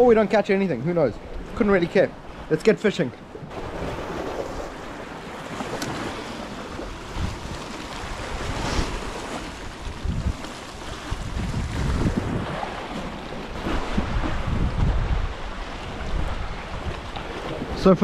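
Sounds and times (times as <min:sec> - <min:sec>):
waves on rocky shore: 0:00.0 - 0:18.0
wind buffeting microphone: 0:03.4 - 0:18.0.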